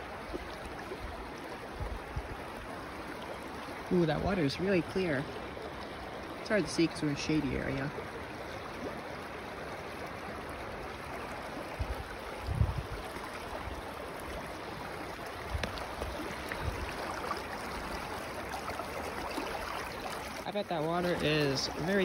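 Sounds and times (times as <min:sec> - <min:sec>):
river water flowing over rocks: 0:00.0 - 0:22.0.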